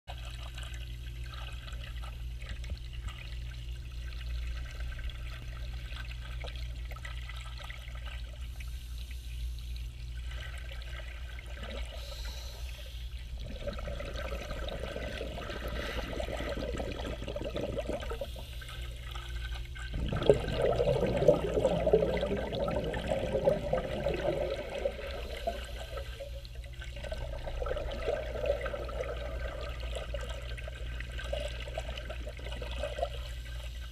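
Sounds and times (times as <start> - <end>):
steady low hum: 0.1 - 33.9
underwater exhaust bubbles: 0.1 - 33.9.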